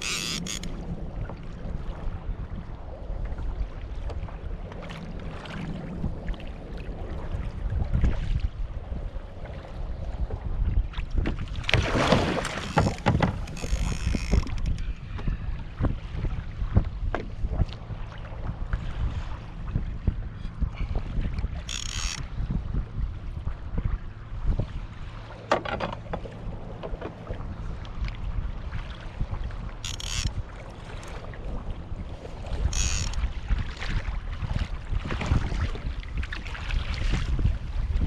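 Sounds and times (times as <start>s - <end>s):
water sloshing around kayak: 0.0s - 38.0s
wind buffeting microphone: 0.0s - 38.0s.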